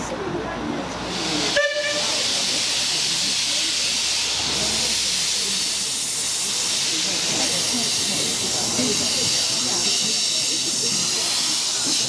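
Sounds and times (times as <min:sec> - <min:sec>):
steam locomotive hissing: 0:00.8 - 0:12.0.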